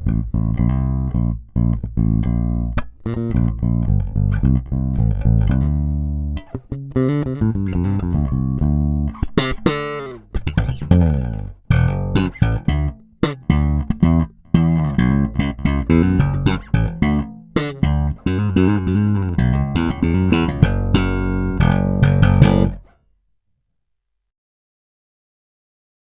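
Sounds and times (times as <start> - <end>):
electric bass plucked notes: 0.0 - 22.9.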